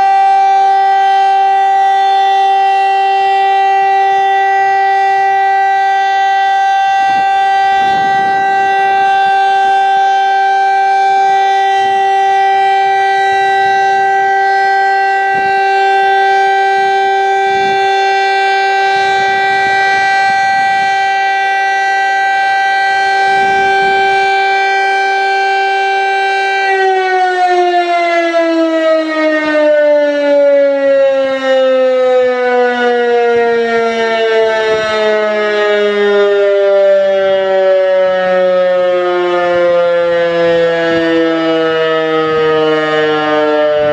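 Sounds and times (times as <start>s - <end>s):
electric motor siren wailing: 0.0s - 43.9s.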